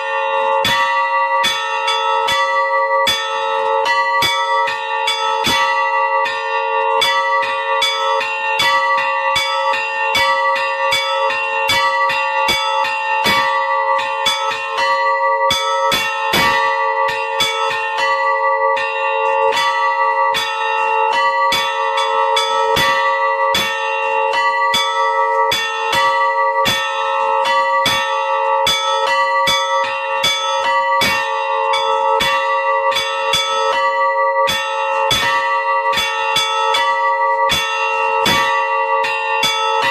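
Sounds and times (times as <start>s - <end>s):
bells ringing: 0.0s - 39.9s.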